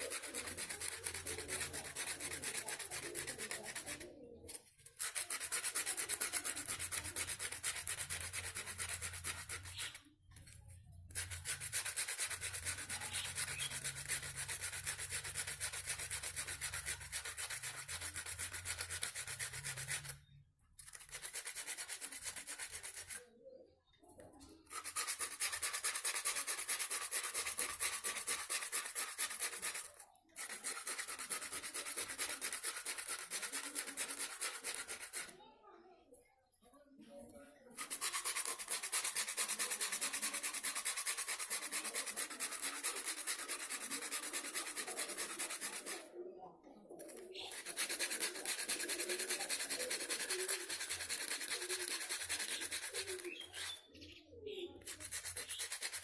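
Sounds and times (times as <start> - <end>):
sandpaper scratching on steel: 0.0 - 23.3, 24.4 - 35.3, 37.6 - 46.2, 47.0 - 53.8, 54.8 - 56.0.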